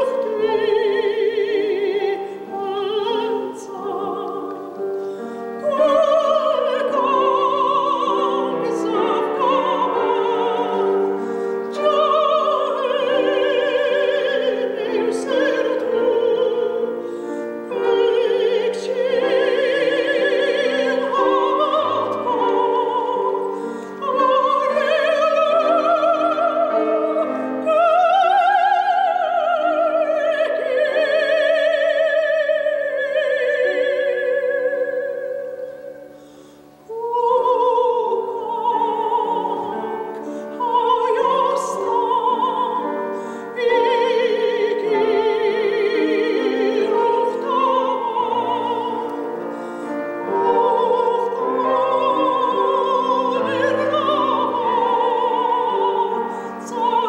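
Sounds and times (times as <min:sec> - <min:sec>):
grand piano: 0:00.0 - 0:57.0
woman singing opera: 0:00.0 - 0:57.0.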